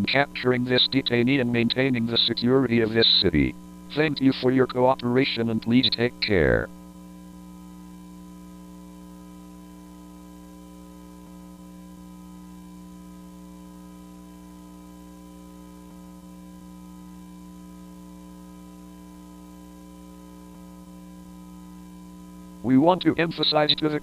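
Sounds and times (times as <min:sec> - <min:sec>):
low electronic hum: 0:00.0 - 0:24.0.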